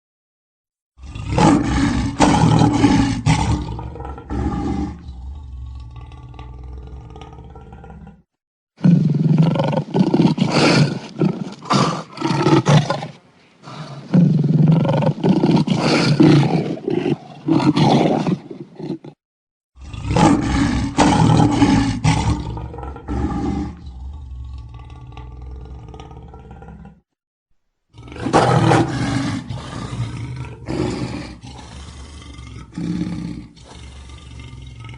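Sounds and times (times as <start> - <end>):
lion roaring: 1.0 - 19.2, 19.8 - 27.1, 27.9 - 34.9.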